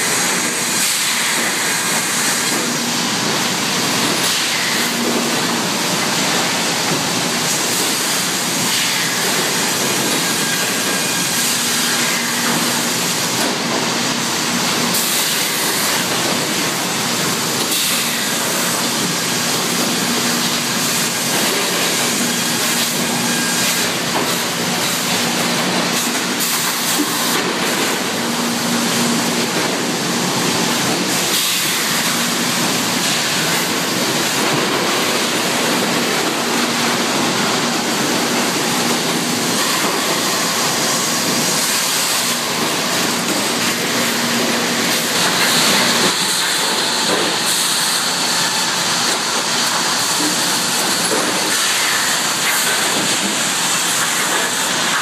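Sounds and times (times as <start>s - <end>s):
sawmill machinery din: 0.0s - 55.0s.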